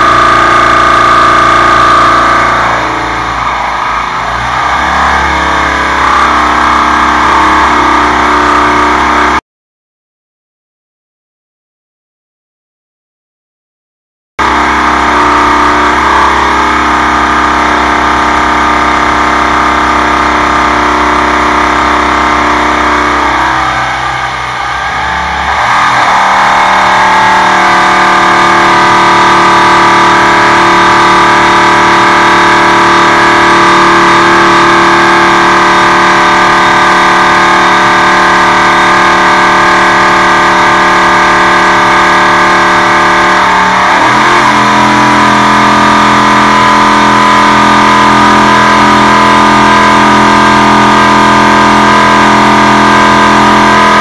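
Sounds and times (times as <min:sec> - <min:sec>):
engine running on dynamometer: 0:00.0 - 0:09.4, 0:14.4 - 0:54.0.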